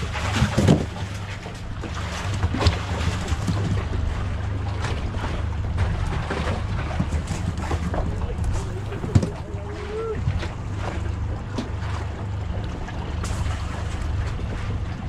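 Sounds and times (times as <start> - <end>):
outboard motors humming: 0.0 - 15.0
wind: 0.0 - 15.0.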